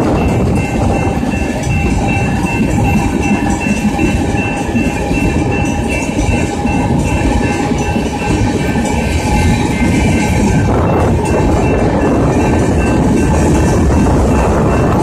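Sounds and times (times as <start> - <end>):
crossing warning bell ringing: 0.0 - 15.0
freight train wheels rumbling: 0.0 - 15.0
wheels clacking over rail joints: 0.0 - 15.0.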